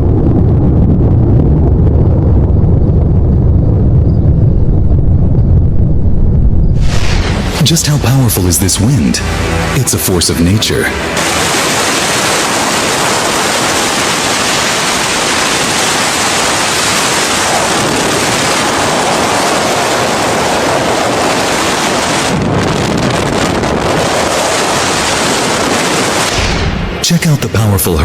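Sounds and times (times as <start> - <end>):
strong wind against microphone: 0.0 - 8.2, 11.2 - 27.0.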